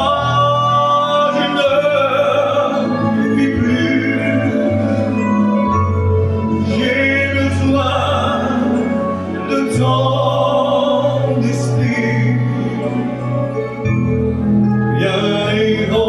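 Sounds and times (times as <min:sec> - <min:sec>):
man singing into a microphone: 0:00.0 - 0:13.8, 0:14.9 - 0:16.0.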